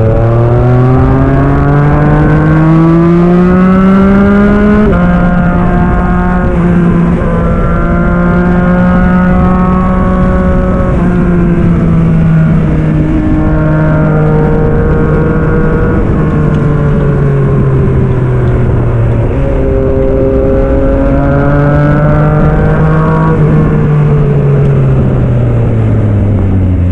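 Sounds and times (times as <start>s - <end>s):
motorcycle engine under load: 0.0s - 26.9s.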